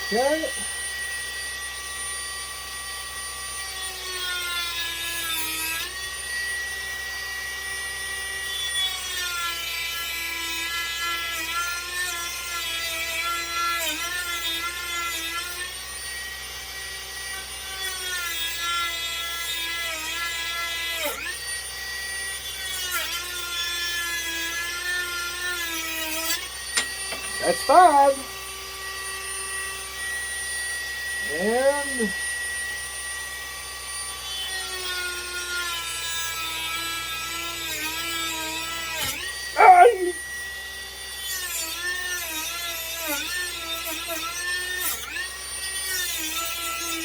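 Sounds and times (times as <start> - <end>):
rotary tool cutting wood: 0.0 - 47.0.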